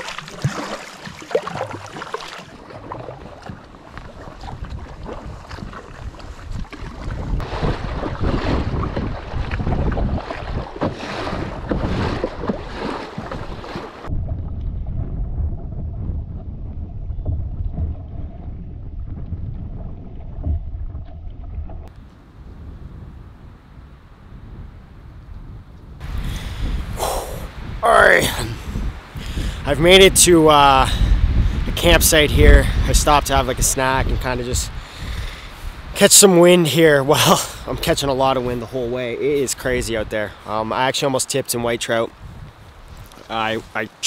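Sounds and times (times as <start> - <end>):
water splashing along canoe hull: 0.0 - 24.2, 30.9 - 44.0
low wind rumble: 0.0 - 36.0, 42.0 - 44.0
wind buffeting microphone: 0.0 - 36.0, 41.6 - 44.0.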